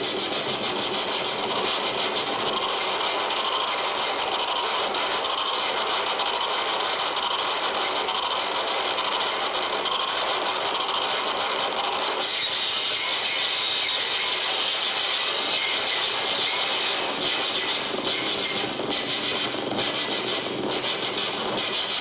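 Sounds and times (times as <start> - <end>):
harsh noise music: 0.0 - 22.0.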